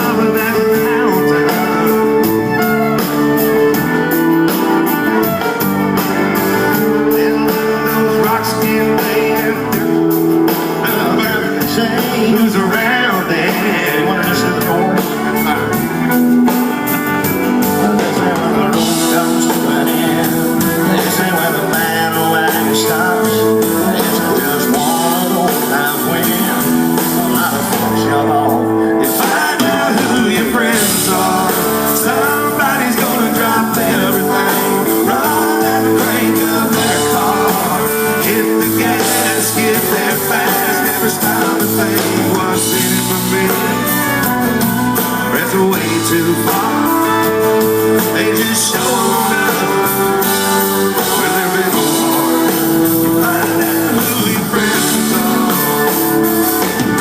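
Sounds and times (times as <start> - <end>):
guitars: 0.0 - 57.0
live country band playing: 0.0 - 57.0.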